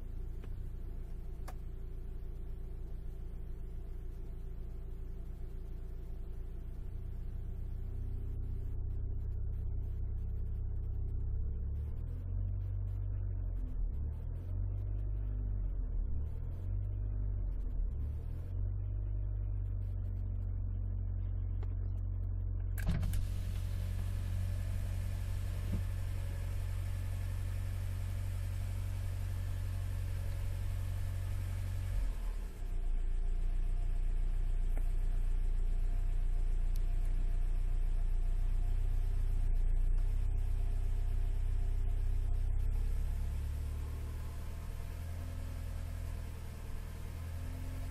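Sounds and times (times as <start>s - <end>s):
car engine and road drone: 0.0s - 47.9s.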